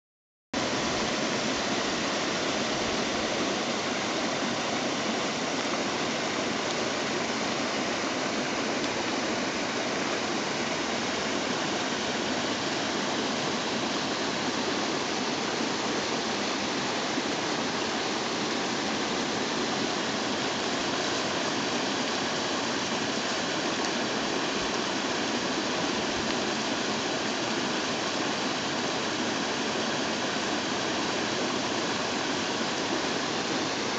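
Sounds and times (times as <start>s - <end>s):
creek water rushing over cascade: 0.6s - 33.9s.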